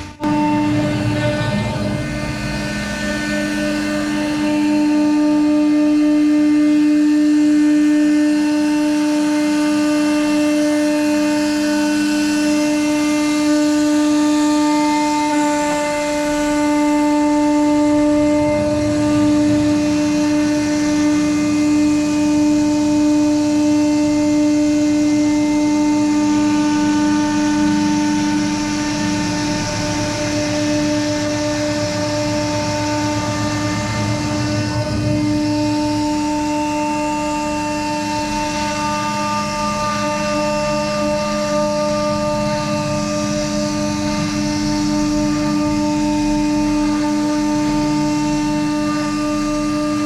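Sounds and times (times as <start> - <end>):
router spindle high whine: 0.0 - 50.0.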